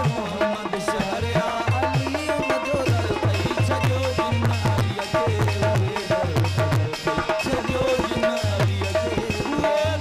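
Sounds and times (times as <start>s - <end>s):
harmonium melody: 0.0s - 10.0s.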